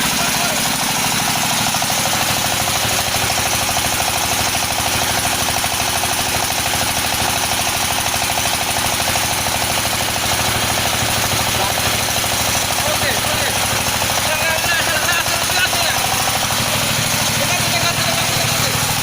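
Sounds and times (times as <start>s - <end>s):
machine engine pulsing: 0.0s - 19.0s.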